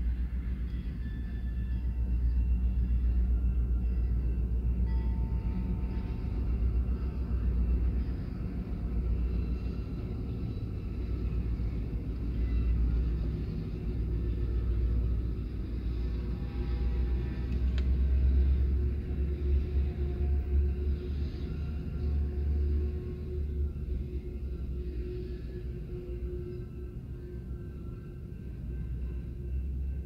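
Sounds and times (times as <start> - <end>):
muffled train rumble: 0.0 - 30.0.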